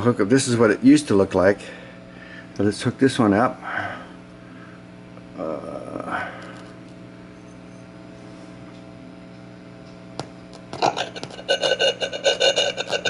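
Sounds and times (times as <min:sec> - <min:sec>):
radio speaker electrical hum: 0:00.0 - 0:13.0.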